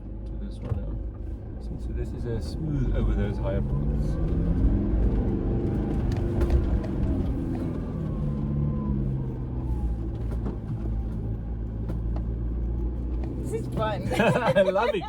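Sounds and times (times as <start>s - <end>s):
car engine pulling under load: 0.1s - 15.0s.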